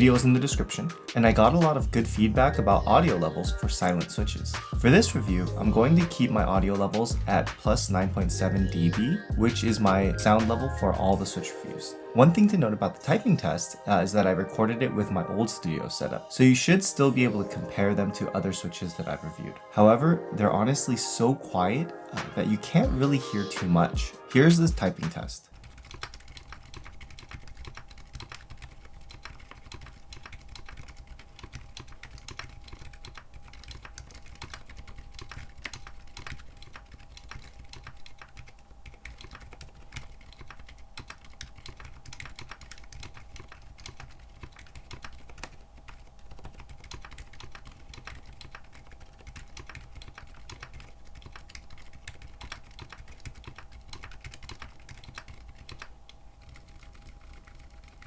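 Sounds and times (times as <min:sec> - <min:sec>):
fast typing on quiet keyboard: 0:00.0 - 0:11.5, 0:22.2 - 0:58.0.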